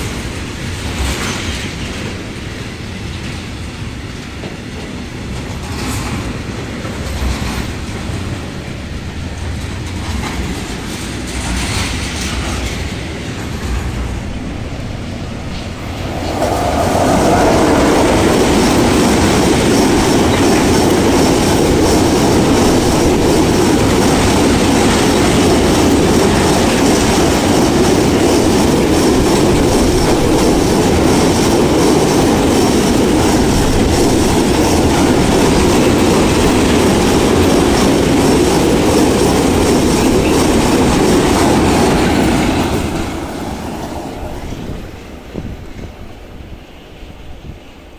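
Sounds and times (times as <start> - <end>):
train wheels clicking over rails: 0.0 - 46.8
train rolling rumble: 0.0 - 47.9.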